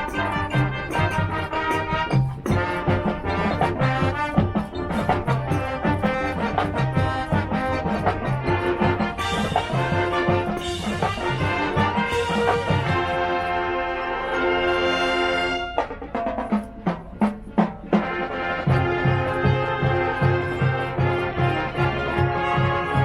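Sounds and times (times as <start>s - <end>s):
steady drum beat: 0.0s - 13.9s, 14.9s - 23.0s
marching band brass: 0.0s - 23.0s.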